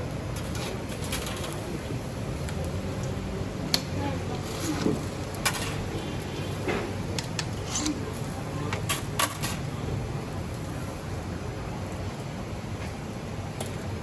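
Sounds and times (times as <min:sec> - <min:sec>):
faint voices: 0:00.5 - 0:11.8.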